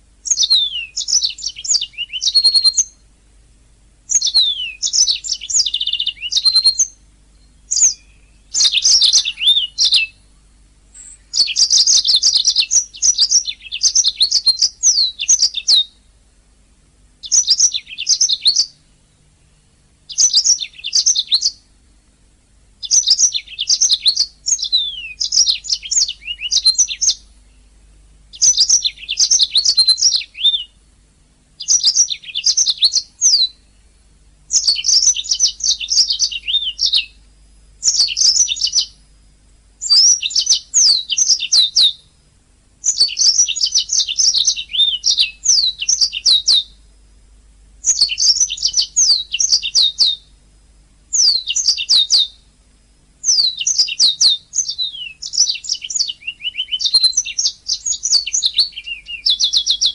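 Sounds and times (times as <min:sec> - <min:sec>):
canary singing: 0:00.0 - 0:03.1, 0:04.1 - 0:16.2, 0:17.2 - 0:22.1, 0:22.8 - 0:31.0, 0:31.6 - 0:39.2, 0:39.8 - 0:42.2, 0:42.8 - 0:46.9, 0:47.8 - 0:50.4, 0:51.1 - 0:52.5, 0:53.2 - 0:59.9.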